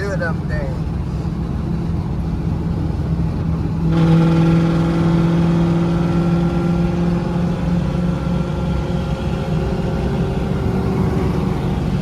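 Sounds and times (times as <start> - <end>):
loud car exhaust drone: 0.0 - 12.0.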